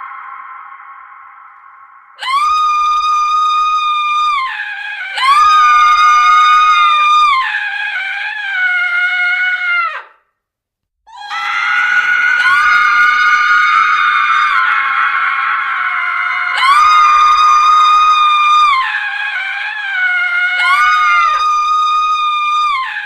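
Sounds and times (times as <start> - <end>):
women screaming: 2.2 - 10.1, 11.1 - 23.0.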